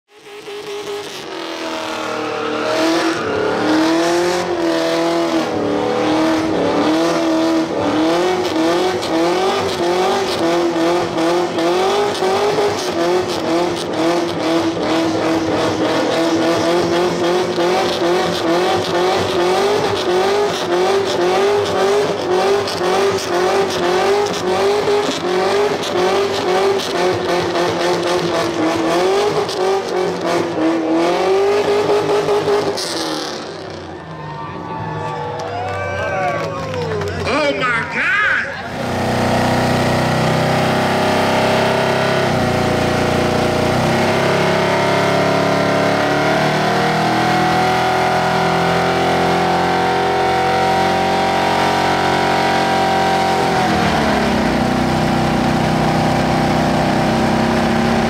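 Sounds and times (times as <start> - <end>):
car engine at high revs: 0.1 - 34.1, 38.6 - 58.0.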